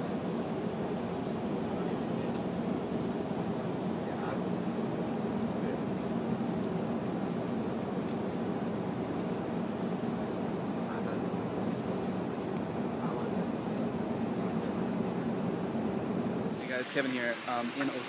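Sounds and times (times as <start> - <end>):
bus engine drone: 0.0 - 16.6.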